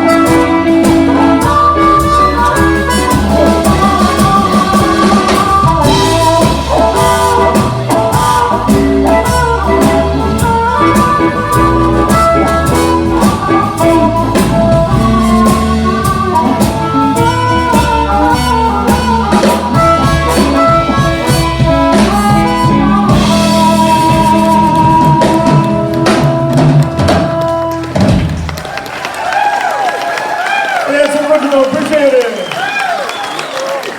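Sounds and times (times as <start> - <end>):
harmonica bent lead notes: 0.0 - 28.5
guitar: 0.0 - 28.7
steady drum beat: 0.0 - 28.8.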